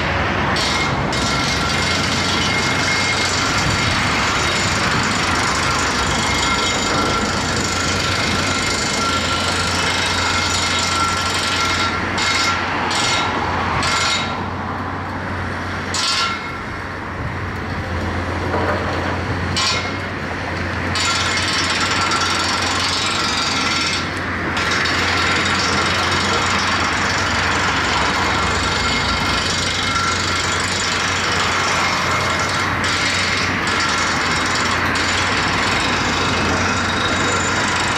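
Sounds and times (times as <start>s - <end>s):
excavator diesel engine hum: 0.0s - 37.9s.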